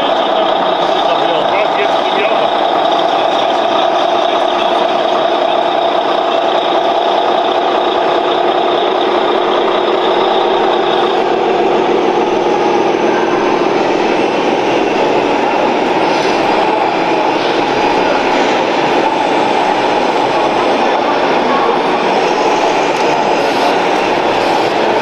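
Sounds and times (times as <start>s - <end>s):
loud mechanical running noise: 0.0s - 25.0s.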